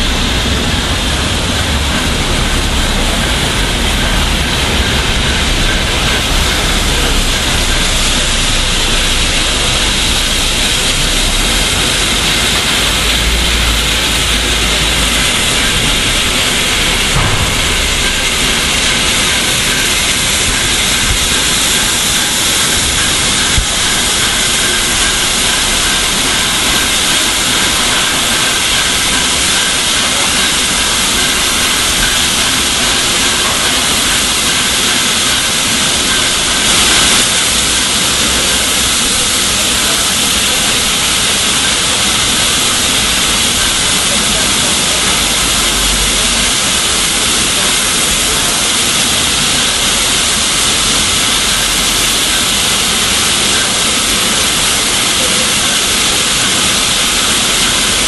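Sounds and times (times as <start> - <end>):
steam hissing: 0.0 - 58.0.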